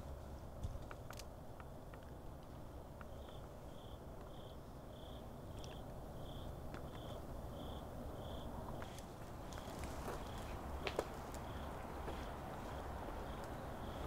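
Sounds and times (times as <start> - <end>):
cricket chirping: 0.1 - 14.0.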